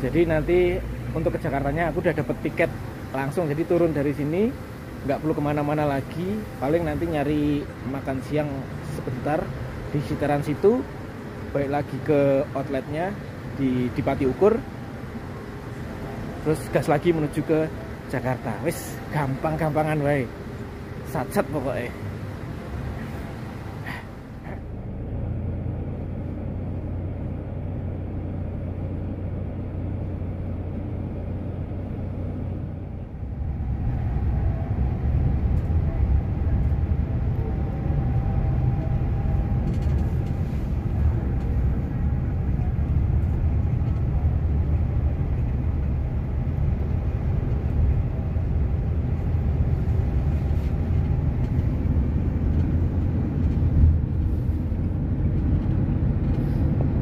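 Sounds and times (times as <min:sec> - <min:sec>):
diesel engine rumble: 0:00.0 - 0:57.0
tyres on the road: 0:00.0 - 0:57.0.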